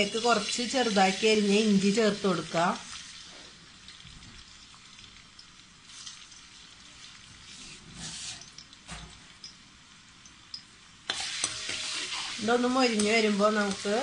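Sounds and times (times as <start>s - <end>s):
ginger sizzling in hot oil: 0.0s - 14.0s.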